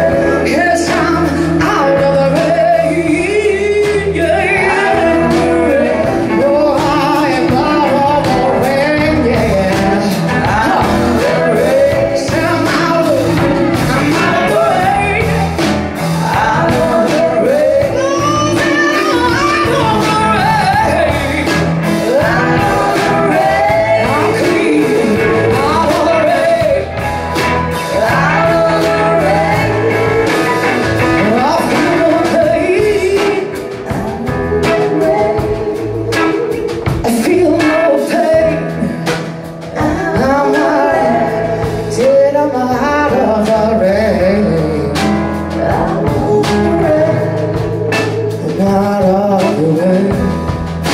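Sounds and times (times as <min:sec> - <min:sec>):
backing singers in harmony: 0:00.0 - 0:42.8
live band playing: 0:00.0 - 0:50.9
woman singing lead: 0:00.0 - 0:50.9.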